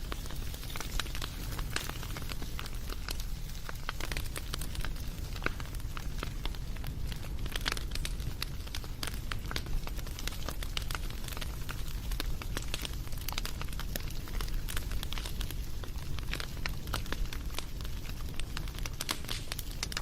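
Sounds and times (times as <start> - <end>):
campfire crackling and popping: 0.0 - 20.0
low rumble of burning fire: 0.0 - 20.0.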